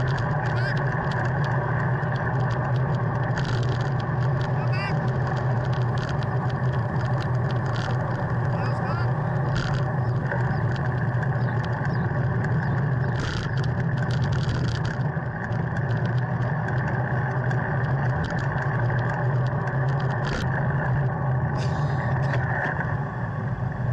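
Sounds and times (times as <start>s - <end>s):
road rumble: 0.0s - 23.9s
wind: 0.0s - 23.9s.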